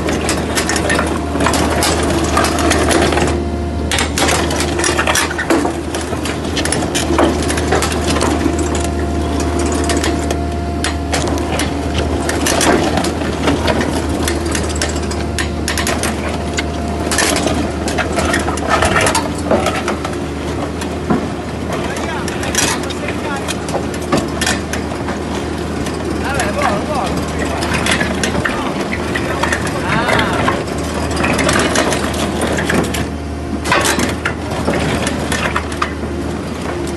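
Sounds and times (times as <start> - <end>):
drill clattering and grinding concrete: 0.0 - 20.8, 21.8 - 36.7
rig engine running: 0.0 - 36.9.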